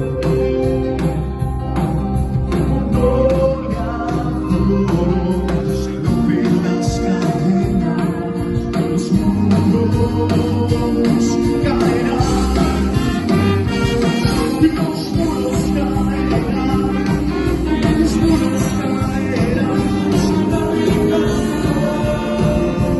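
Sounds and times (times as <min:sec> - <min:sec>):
live band with singing: 0:00.0 - 0:22.9.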